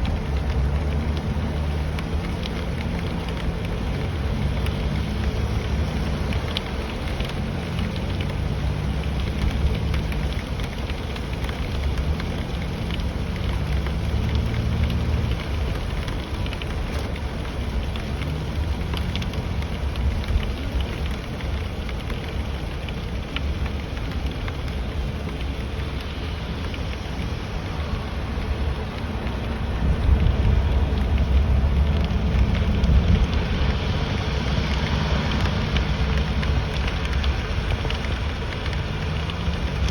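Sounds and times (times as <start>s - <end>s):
steady rain: 0.0s - 39.9s
vehicle driving rumble: 0.0s - 39.9s.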